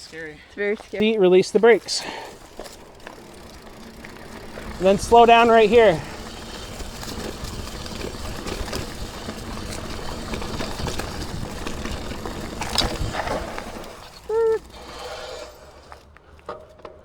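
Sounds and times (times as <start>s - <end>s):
bike rattles and clicks: 0.0s - 17.0s
bike rolling on dirt trail: 0.0s - 17.0s.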